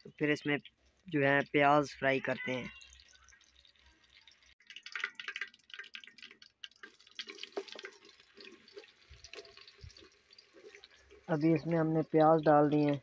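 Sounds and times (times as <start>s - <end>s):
hot oil spitting and crackling: 0.0s - 13.0s.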